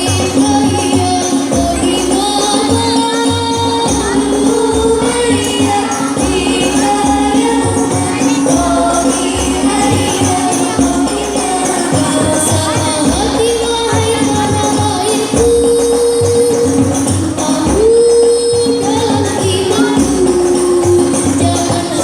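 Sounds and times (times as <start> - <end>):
frame drums: 0.0 - 22.0
person singing: 0.0 - 22.0.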